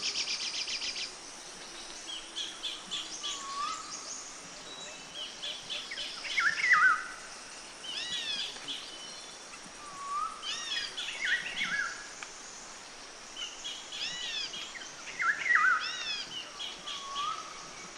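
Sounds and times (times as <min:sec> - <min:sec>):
outdoor hiss: 0:00.0 - 0:17.9
songbirds singing: 0:00.0 - 0:17.9.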